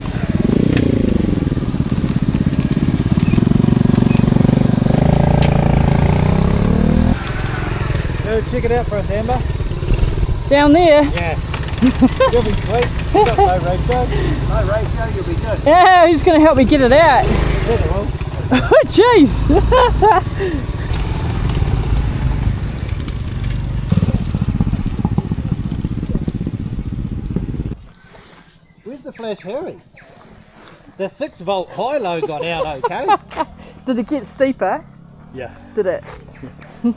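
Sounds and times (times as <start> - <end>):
motorcycle engine revving: 0.0 - 28.9, 32.2 - 36.9.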